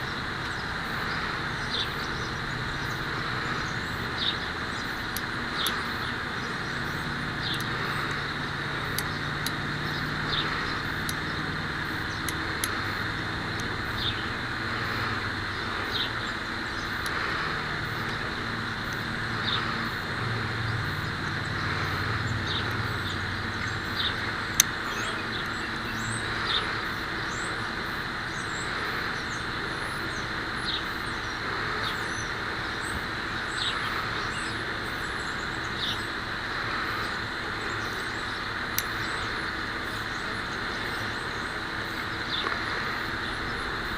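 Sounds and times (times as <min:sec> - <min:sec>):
low hum: 0:00.0 - 0:43.9.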